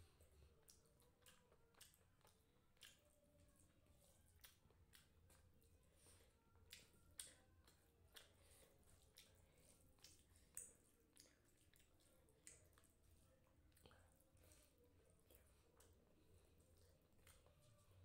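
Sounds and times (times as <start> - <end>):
chewing and mouth clicks: 0.0 - 18.0.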